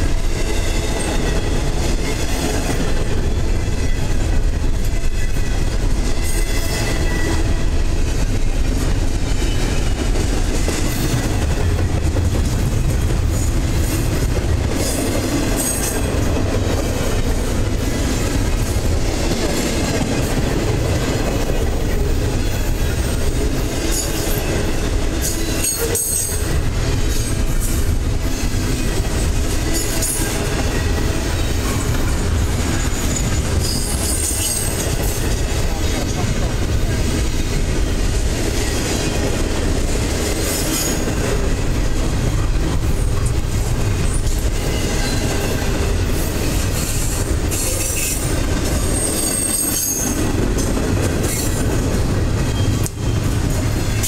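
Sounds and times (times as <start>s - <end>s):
steel wheels rumbling on rails: 0.0s - 54.0s.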